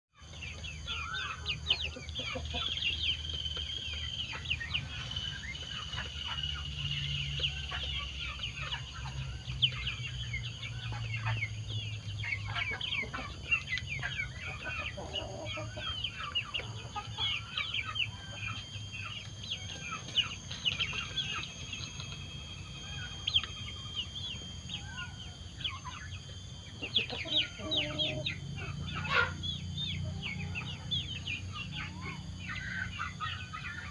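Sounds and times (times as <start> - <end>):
chicks peeping and clucking: 0.2 - 33.9
steady high whine: 0.2 - 33.9.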